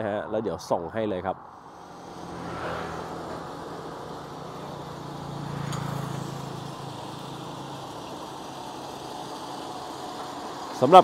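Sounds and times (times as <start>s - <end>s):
vehicle engine idling: 1.5s - 11.0s.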